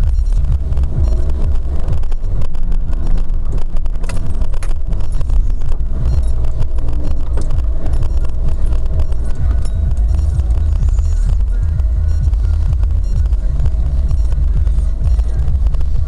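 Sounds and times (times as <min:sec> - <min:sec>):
off-road vehicle engine rumble: 0:00.0 - 0:16.0.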